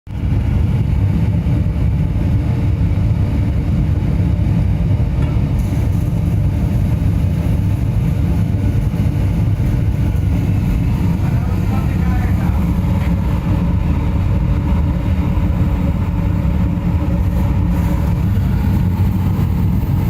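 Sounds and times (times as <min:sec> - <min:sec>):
air blower rumbling: 0:00.1 - 0:20.0.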